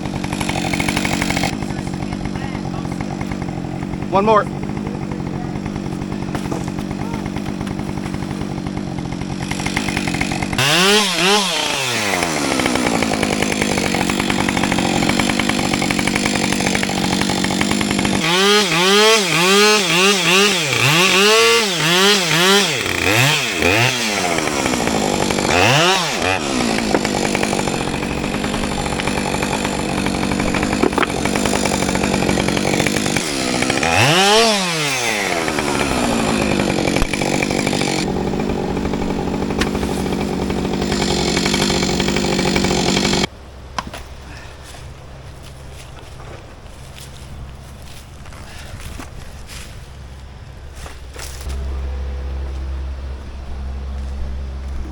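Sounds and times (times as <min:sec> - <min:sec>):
chainsaw revving: 0:00.0 - 0:43.3, 0:51.3 - 0:54.9.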